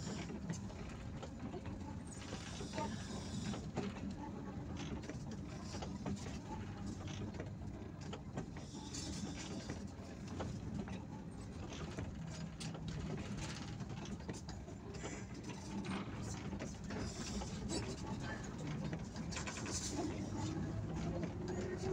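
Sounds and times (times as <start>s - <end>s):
bus engine running: 0.0s - 21.9s
rattles and clicks in cabin: 0.0s - 21.9s.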